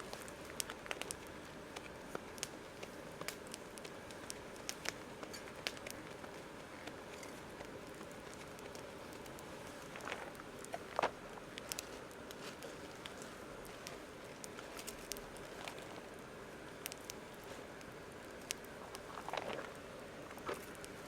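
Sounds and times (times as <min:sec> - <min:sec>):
campfire crackling: 0:00.0 - 0:21.0
low steady hiss: 0:00.0 - 0:21.0.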